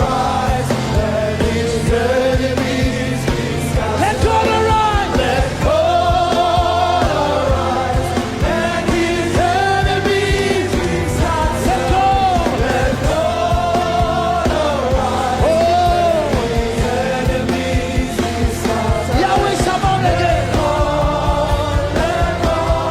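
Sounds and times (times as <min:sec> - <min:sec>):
backing band: 0:00.0 - 0:22.9
person singing: 0:00.0 - 0:22.9.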